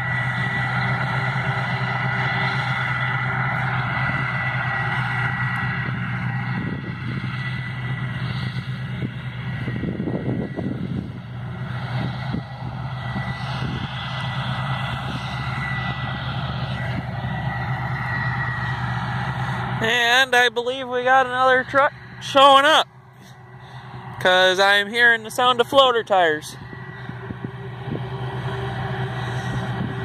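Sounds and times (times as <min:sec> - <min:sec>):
high-pitched whine: 0:00.0 - 0:30.0
vehicle engine drone: 0:00.0 - 0:30.0.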